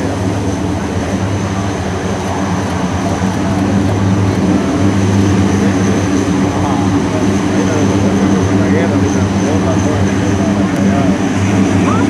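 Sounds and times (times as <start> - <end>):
propeller drone: 0.0 - 12.0.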